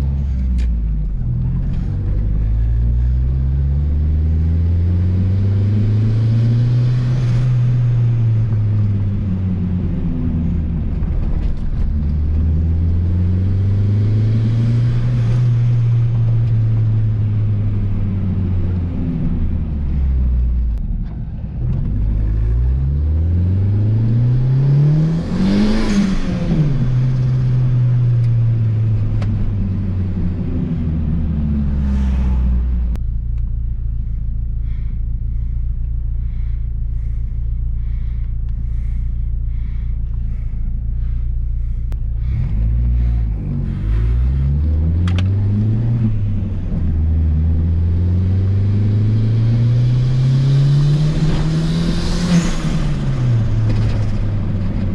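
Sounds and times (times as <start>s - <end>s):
car engine revving: 0.0s - 20.8s, 21.7s - 54.9s.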